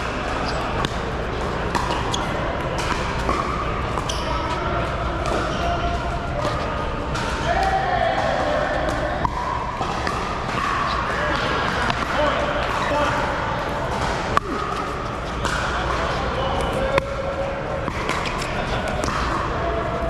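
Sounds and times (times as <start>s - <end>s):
murmur of voices: 0.0s - 20.0s.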